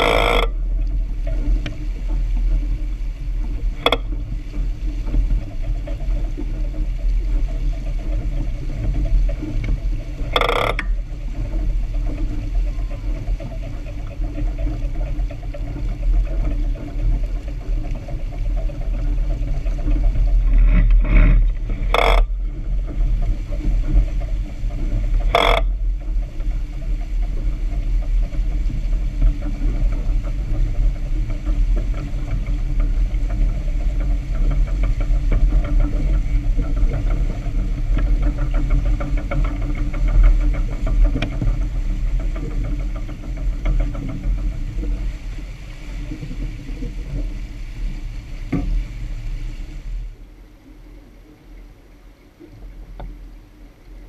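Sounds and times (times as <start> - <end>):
wind buffeting microphone: 0.0 - 50.3
water rushing along hull: 0.0 - 54.0.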